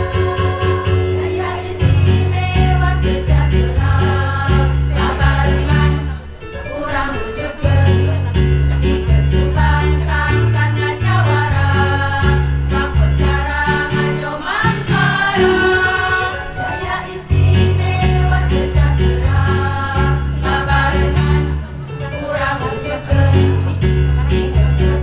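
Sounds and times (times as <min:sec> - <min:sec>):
instrumental accompaniment with bass: 0:00.0 - 0:25.0
women's choir singing: 0:00.0 - 0:25.0.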